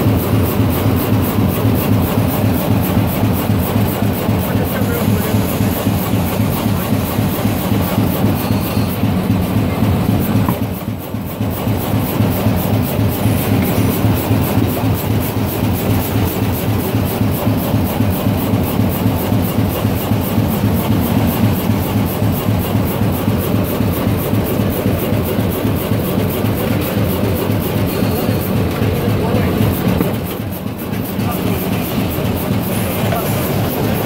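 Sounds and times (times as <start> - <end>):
machine clattering rapidly: 0.0 - 34.0.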